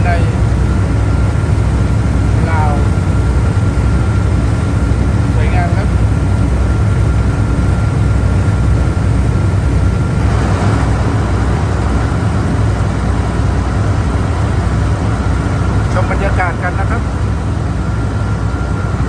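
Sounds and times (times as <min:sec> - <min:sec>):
boat engine droning: 0:00.0 - 0:19.0
wind: 0:00.0 - 0:19.0.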